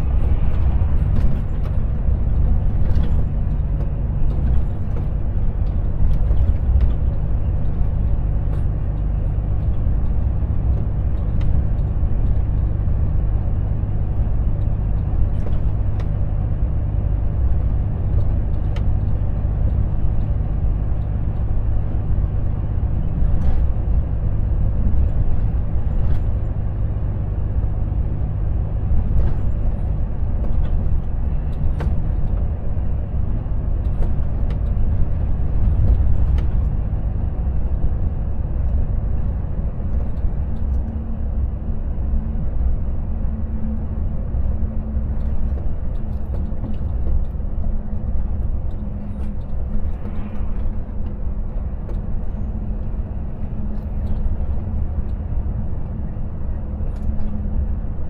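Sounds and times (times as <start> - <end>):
road noise: 0.0 - 58.0
truck diesel engine drone: 0.0 - 58.0.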